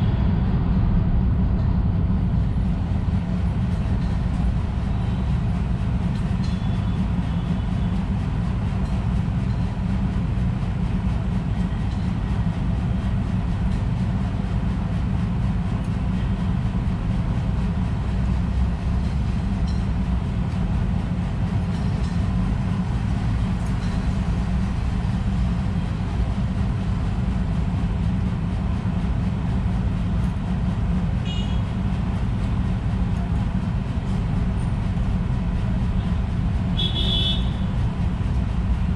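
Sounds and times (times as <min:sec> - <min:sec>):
street traffic rumble: 0:00.0 - 0:38.9.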